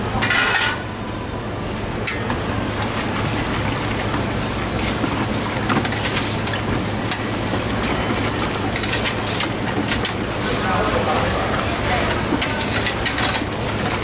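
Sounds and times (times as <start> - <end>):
paddle stirring mixture: 2.3 - 14.0.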